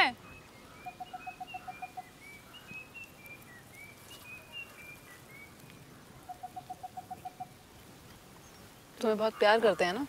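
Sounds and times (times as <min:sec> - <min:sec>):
birds whistling faintly: 0:00.0 - 0:10.0.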